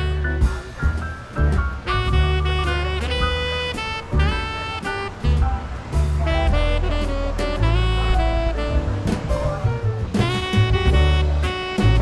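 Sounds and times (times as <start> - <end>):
jazzy saxophone music: 0.0 - 12.0.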